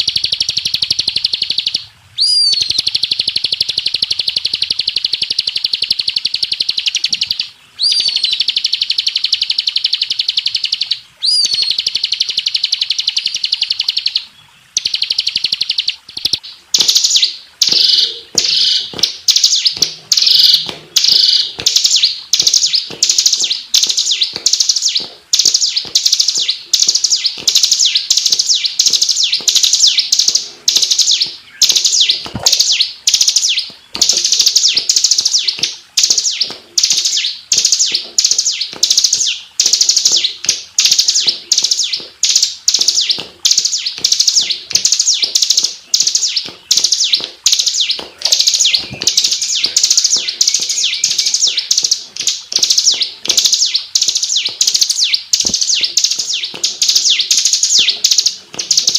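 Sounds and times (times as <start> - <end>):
bird singing rapid high notes: 0.0 - 58.9.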